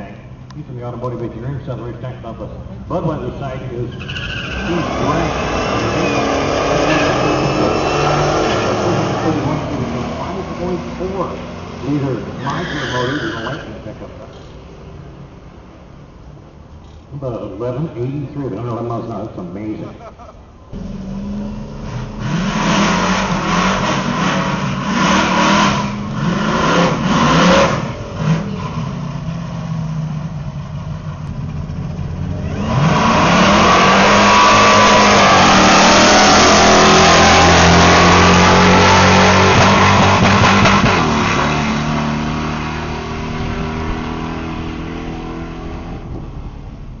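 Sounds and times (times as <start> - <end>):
supercharged truck engine revving: 0.0 - 14.3, 20.7 - 47.0
truck accelerating at full throttle: 0.0 - 15.8, 20.7 - 47.0.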